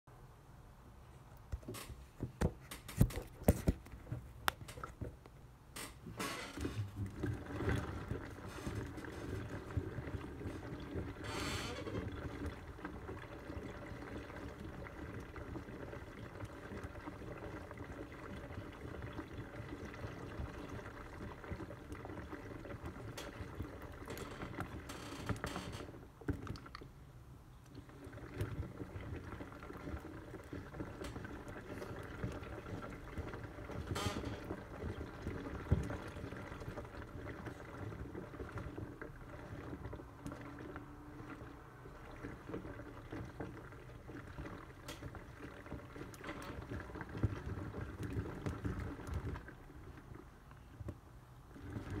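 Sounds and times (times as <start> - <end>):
water sloshing in turning drum: 1.5 - 52.0.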